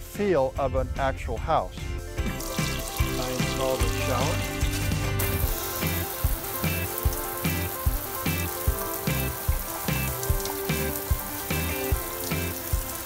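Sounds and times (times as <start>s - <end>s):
music with low thumping beat: 1.8s - 13.0s
running water hiss: 2.2s - 13.0s.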